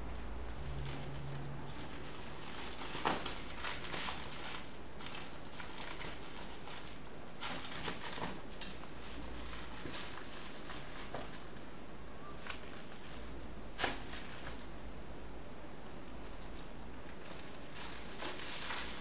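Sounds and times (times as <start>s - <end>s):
cat scuffling with plush toy: 0.6s - 11.6s, 12.4s - 14.7s, 16.3s - 19.0s.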